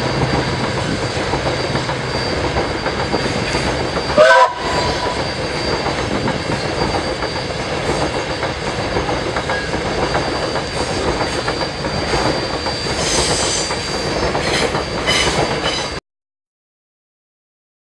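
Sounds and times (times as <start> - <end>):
high wheel squeal: 0.0 - 16.0
train wheels rumbling and clattering: 0.0 - 16.0.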